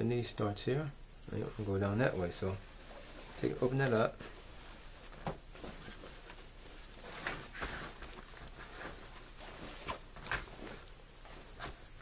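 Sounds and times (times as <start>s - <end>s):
cloth rustling: 1.4s - 12.0s.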